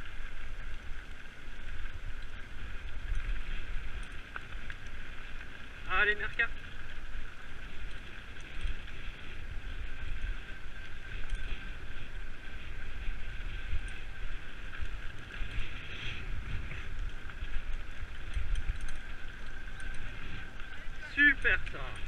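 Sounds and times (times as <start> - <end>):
bike tyres rolling on gravel: 0.0 - 22.0
wind buffeting microphone: 0.0 - 22.0.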